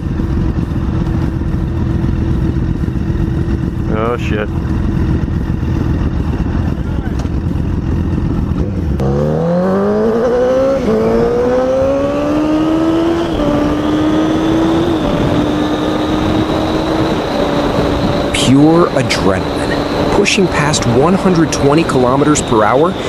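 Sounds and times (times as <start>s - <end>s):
motorcycle engine accelerating: 0.0s - 23.0s
wind rumble: 0.0s - 23.0s.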